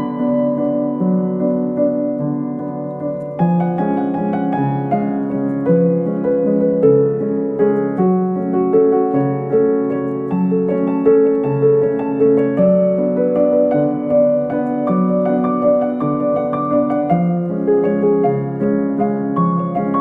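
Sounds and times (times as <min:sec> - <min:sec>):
slow gentle piano melody: 0:00.0 - 0:20.0.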